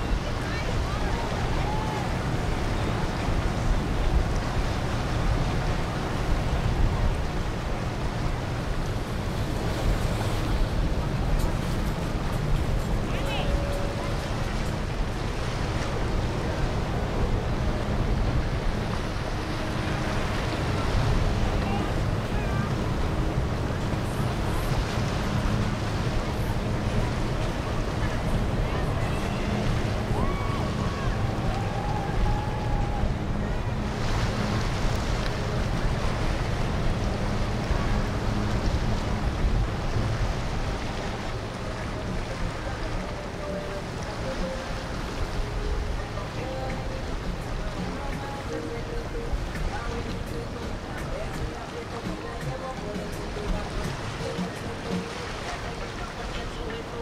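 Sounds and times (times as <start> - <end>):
water and boat noise: 0.0 - 57.0
wind on microphone: 0.0 - 57.0.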